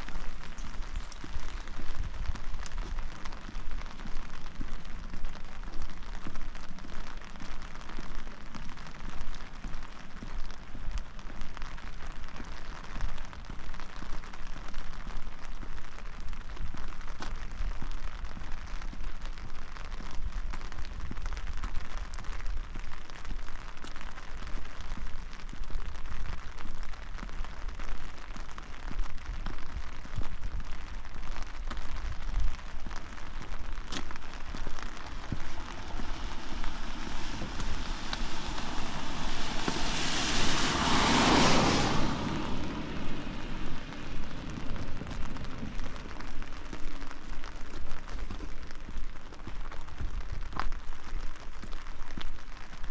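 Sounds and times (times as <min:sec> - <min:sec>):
rain pattering: 0:00.0 - 0:52.9
vehicle tyres hissing on wet road: 0:00.0 - 0:52.9.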